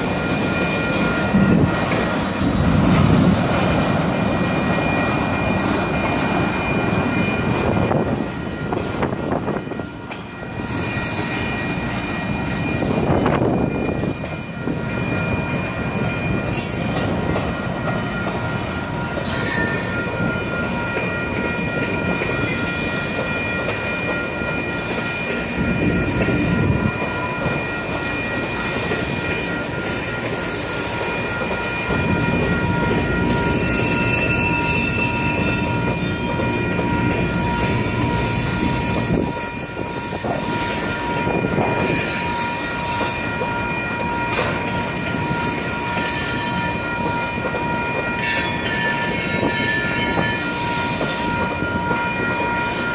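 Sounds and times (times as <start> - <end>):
train wheels squealing on rail: 0.0 - 52.9.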